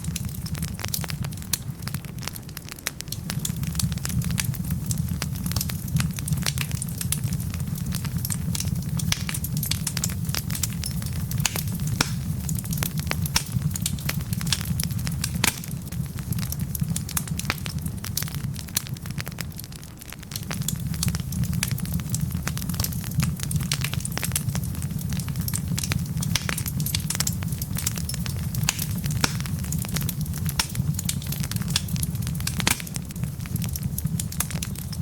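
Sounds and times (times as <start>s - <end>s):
fire low rumble: 0.0s - 35.0s
logs crackling and popping: 0.0s - 35.0s.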